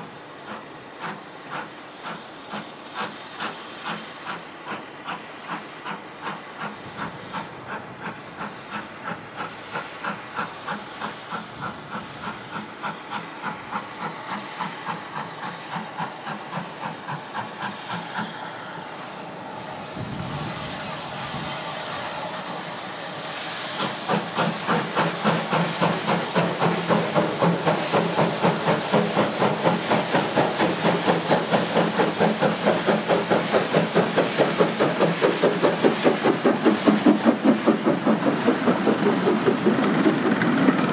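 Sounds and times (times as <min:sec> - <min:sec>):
steam hissing: 0:00.0 - 0:40.9
steam locomotive exhaust beats: 0:00.0 - 0:40.9.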